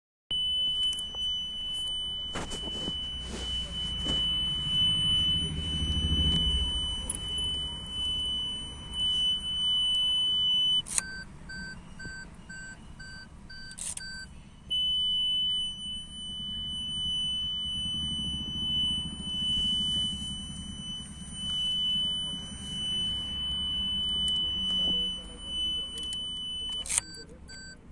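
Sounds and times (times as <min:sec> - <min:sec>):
lower intermittent beeping: 0:00.3 - 0:27.9
parking sensor continuous beep: 0:00.3 - 0:27.9.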